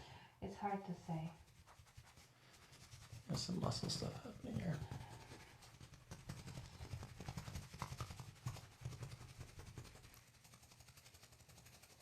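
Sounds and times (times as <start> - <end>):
hands rubbing on back: 1.1 - 12.0.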